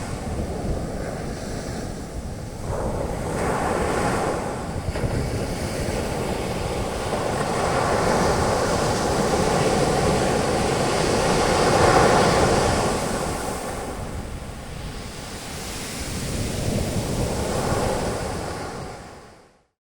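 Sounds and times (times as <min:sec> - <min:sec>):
ocean waves breaking on beach: 0:00.0 - 0:19.4
wind noise on microphone: 0:00.0 - 0:19.5.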